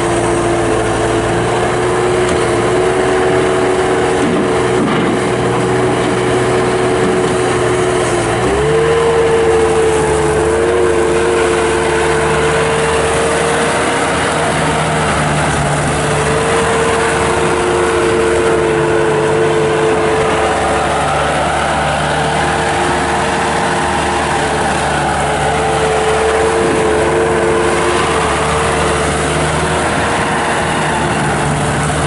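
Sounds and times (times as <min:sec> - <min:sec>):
diesel engine running: 0:00.0 - 0:32.0
steady whining tone: 0:00.0 - 0:32.0.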